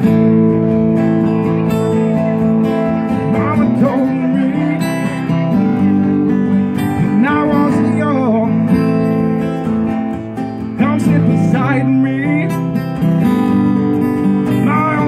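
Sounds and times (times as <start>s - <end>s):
acoustic guitars strumming chords: 0.0s - 15.0s
bending guitar melody: 0.0s - 15.0s.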